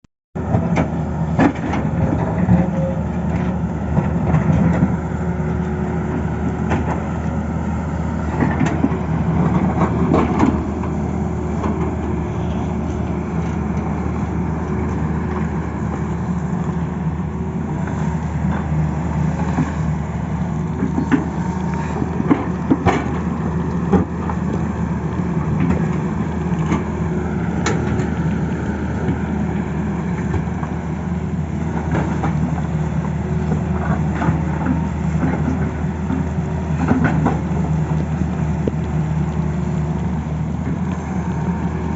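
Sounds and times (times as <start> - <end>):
excavator diesel engine running: 0.4 - 41.9.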